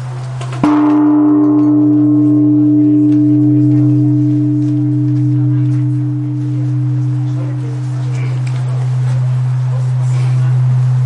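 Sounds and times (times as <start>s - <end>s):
temple bell ringing: 0.6s - 11.0s.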